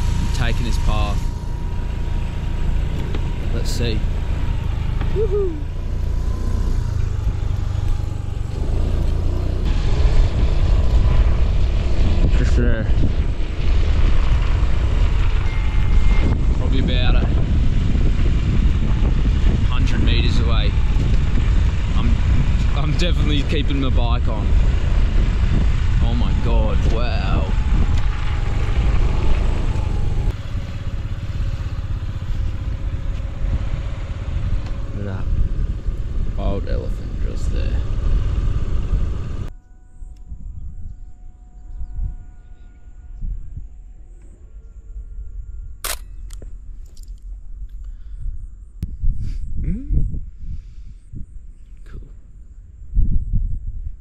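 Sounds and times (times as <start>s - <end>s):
motorbike engine rumbling: 0.0s - 52.0s.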